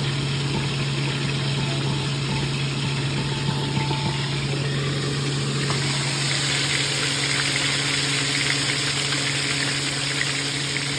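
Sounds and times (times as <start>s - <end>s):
fish frying in oil: 0.0s - 10.9s
steady low hum: 0.0s - 10.9s.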